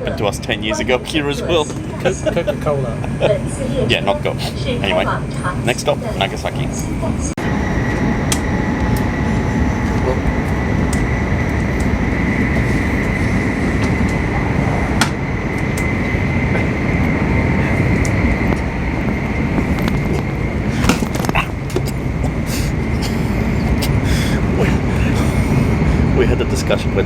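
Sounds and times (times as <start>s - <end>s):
train cabin rumble: 0.0s - 27.0s
faint high whine: 3.6s - 27.0s.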